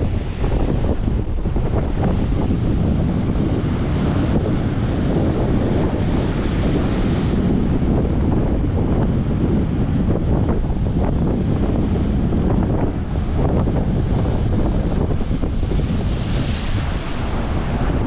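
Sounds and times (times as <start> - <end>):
heavy surf: 0.0 - 18.0
wind buffeting microphone: 0.0 - 18.0.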